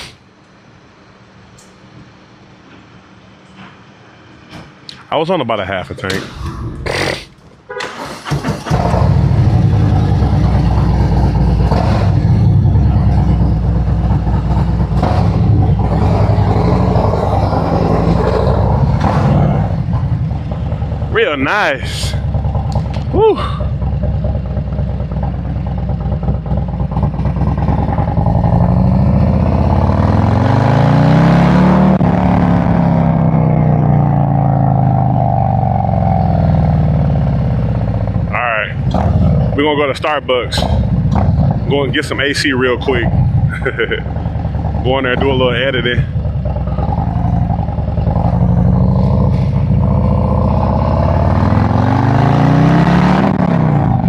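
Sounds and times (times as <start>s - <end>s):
motorcycle engine accelerating: 7.9s - 54.0s.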